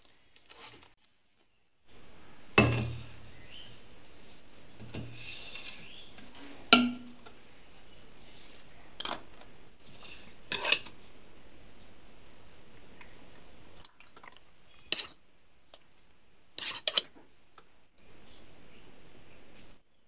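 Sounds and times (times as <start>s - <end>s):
steady background hiss: 1.8s - 20.0s.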